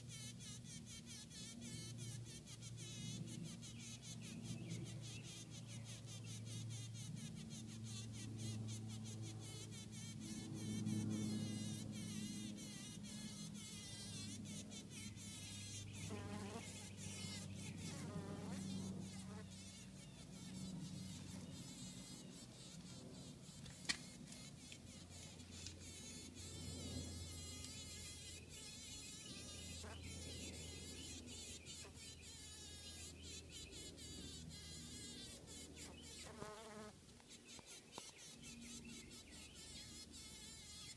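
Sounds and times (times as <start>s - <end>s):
bee buzzing: 0.1s - 40.9s.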